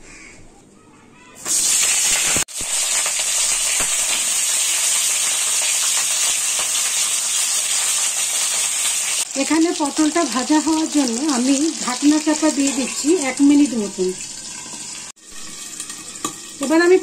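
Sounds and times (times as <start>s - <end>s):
vegetables sizzling in hot oil: 1.4s - 17.0s.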